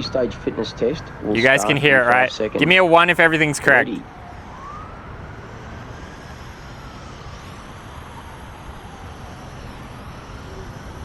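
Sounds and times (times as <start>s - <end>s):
distant siren wailing: 0.0s - 11.0s.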